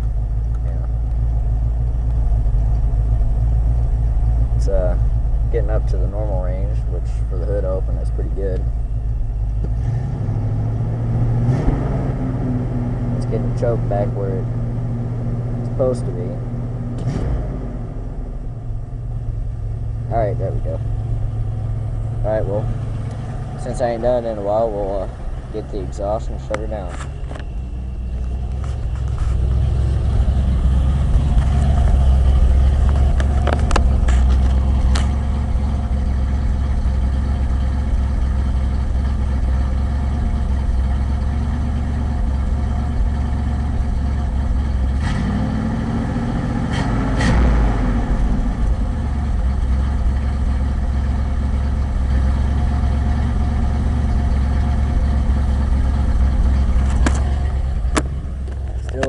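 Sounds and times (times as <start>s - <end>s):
car engine idling with misfire: 0.0s - 59.0s.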